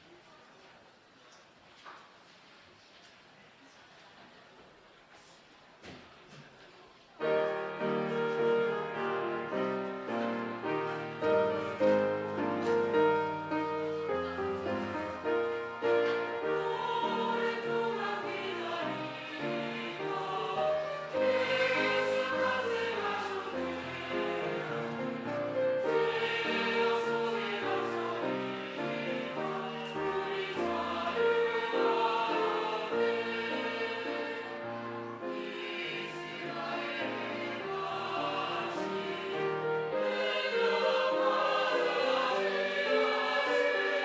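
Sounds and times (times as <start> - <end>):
choir singing: 7.2 - 44.0
piano accompaniment: 7.2 - 44.0.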